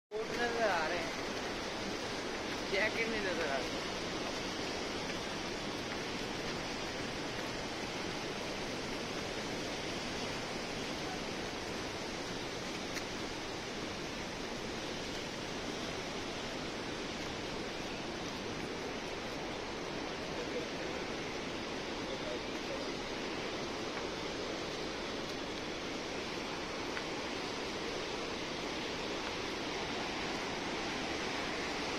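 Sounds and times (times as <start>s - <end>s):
rush of running water: 0.1s - 31.9s.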